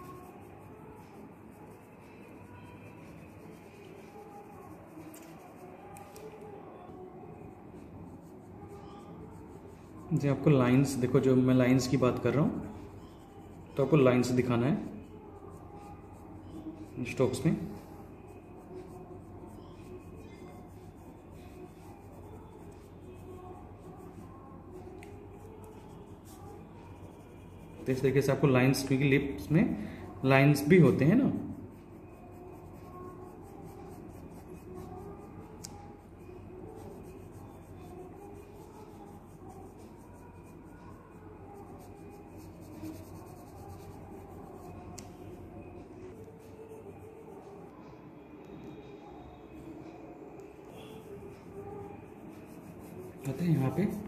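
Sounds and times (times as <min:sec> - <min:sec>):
pencil scratching on paper: 0:00.0 - 0:06.3, 0:07.5 - 0:45.4, 0:50.8 - 0:54.0.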